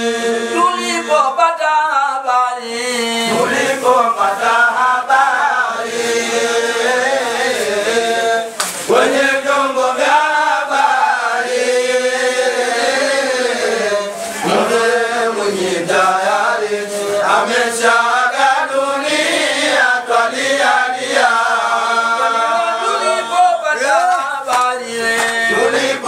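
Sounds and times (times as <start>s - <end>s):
man chanting into a microphone: 0.0s - 26.0s.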